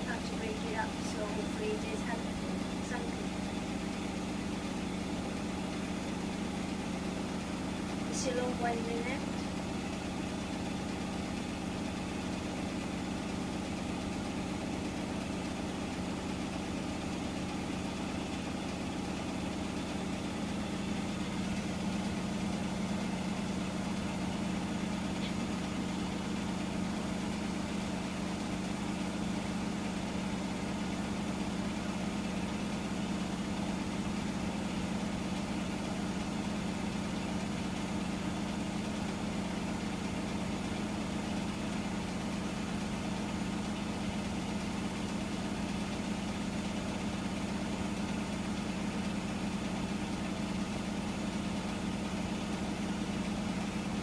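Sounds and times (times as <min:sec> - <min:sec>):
washing machine spin hum: 0:00.0 - 0:54.0.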